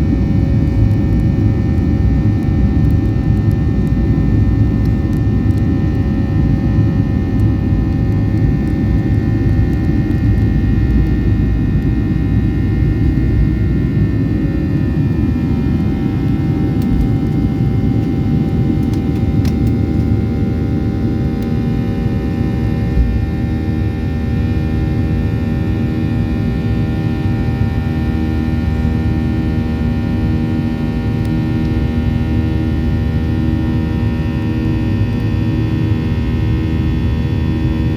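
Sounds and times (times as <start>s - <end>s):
jet engine cabin rumble: 0.0s - 37.9s
steady whining tones: 0.0s - 37.9s.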